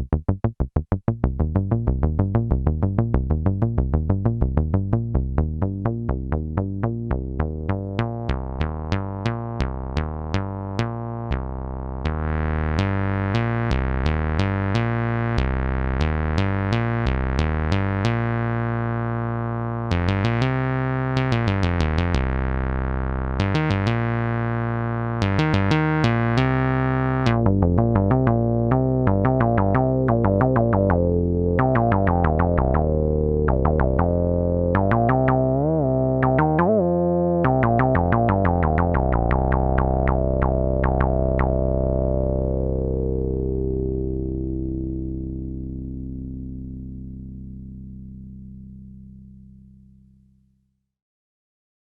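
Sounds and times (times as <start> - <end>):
synthesizer arpeggiated bass line: 0.0 - 50.0.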